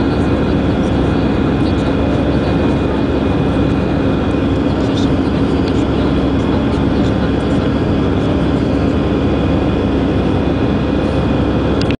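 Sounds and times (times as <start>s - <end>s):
jet engine cabin noise: 0.0s - 12.0s
steady hum: 0.0s - 12.0s.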